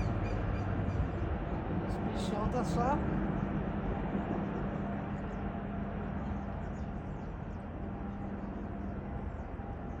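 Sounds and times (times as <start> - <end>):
helicopter engine and rotor drone: 0.0 - 10.0.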